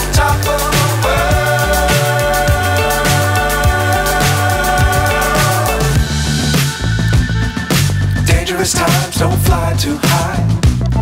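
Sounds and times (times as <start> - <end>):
song with singing voice: 0.0 - 11.0
steady bass beat: 0.0 - 11.0.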